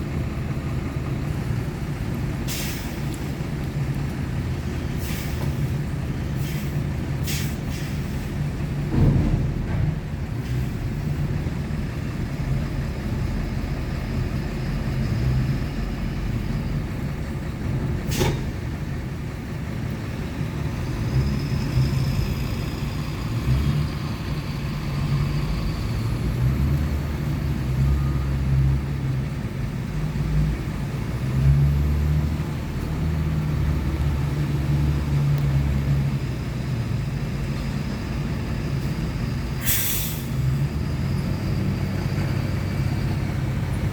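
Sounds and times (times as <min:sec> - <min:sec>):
truck engine rumbling: 0:00.0 - 0:43.9.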